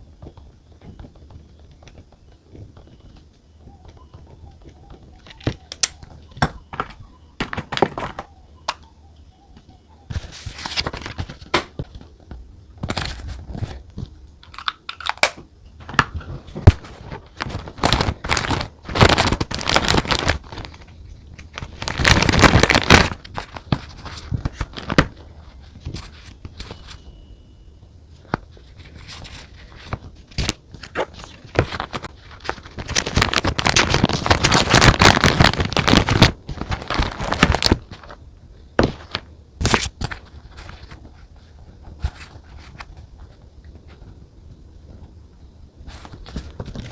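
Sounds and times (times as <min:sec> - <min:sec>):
paper crinkling and rustling: 0:00.0 - 0:08.9, 0:09.5 - 0:27.2, 0:28.2 - 0:45.2, 0:45.8 - 0:46.9.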